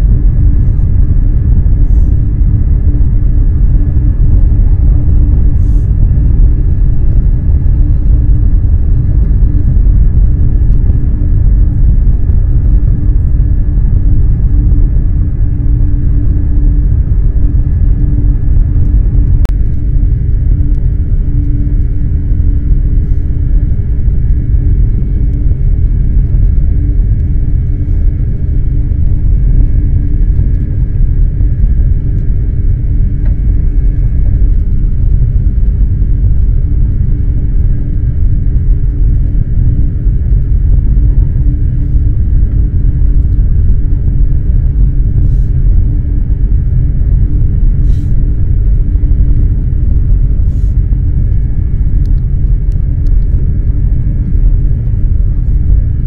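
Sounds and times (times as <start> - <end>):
faint constant hum: 0.0 - 56.0
train running low rumble: 0.0 - 56.0.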